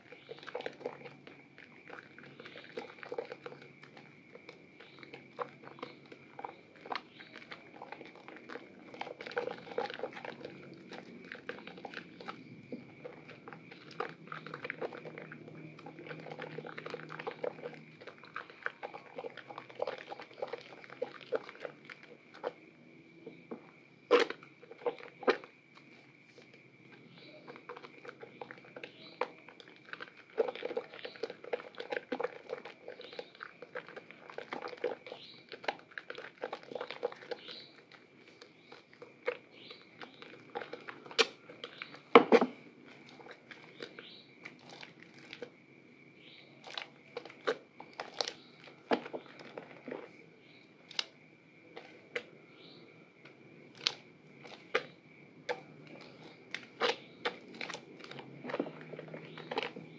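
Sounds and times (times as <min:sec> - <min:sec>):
wet soap squelches: 0:00.0 - 0:59.9.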